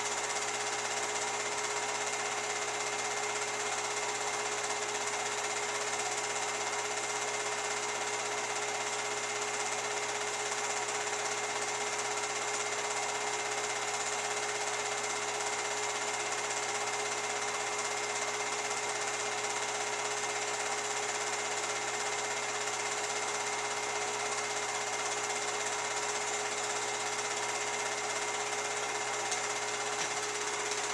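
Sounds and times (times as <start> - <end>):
film projector whirring: 0.0 - 30.9.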